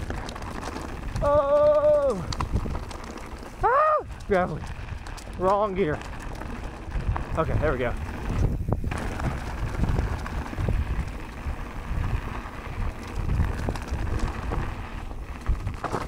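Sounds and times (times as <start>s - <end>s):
bike knocks and rattles: 0.0s - 16.0s
tyres rumbling over dirt: 0.0s - 16.0s
wind on microphone: 0.0s - 16.0s.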